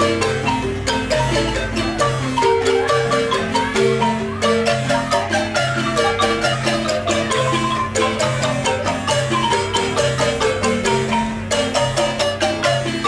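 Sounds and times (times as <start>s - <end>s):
marimba played with mallets: 0.0s - 13.0s.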